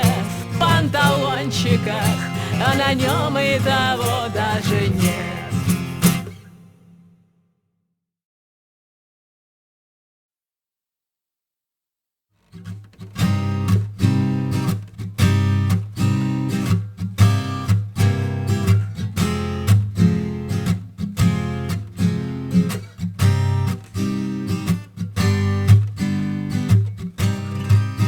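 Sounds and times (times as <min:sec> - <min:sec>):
acoustic guitar strumming: 0:00.0 - 0:07.2, 0:12.5 - 0:28.0.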